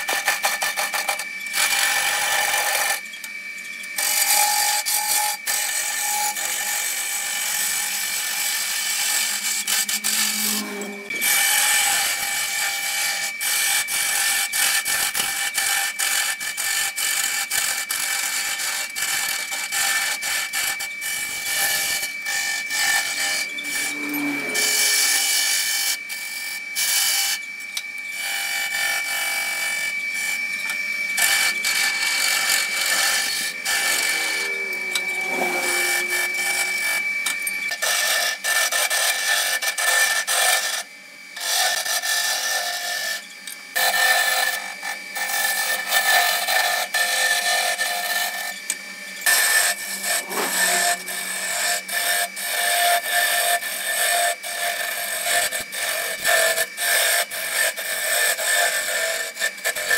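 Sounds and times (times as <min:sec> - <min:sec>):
lathe high tone: 0:00.0 - 0:59.9
wood lathe turning tool cutting: 0:00.0 - 0:59.9.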